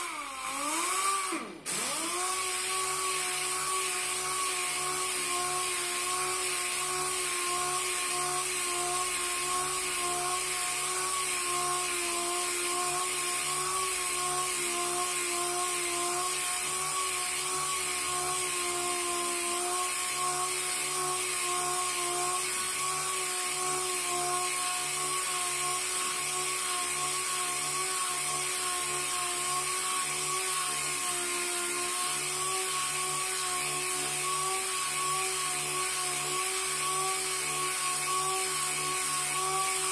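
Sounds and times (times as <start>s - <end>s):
orbital sander whining: 0.0s - 39.9s.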